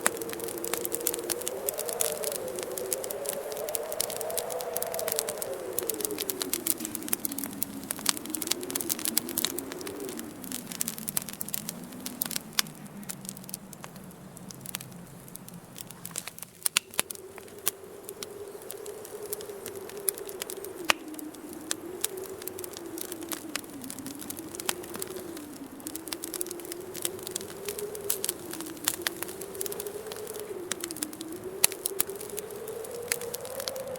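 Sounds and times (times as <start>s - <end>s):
wind whistling: 0.0s - 33.9s
wood fire crackling and popping: 0.0s - 33.9s.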